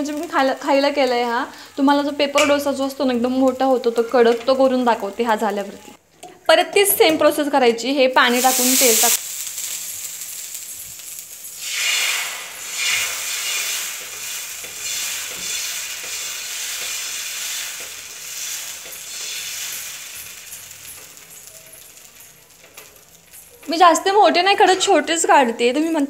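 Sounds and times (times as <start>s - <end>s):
oil sizzling on hot griddle: 0.0s - 5.8s, 8.2s - 24.6s.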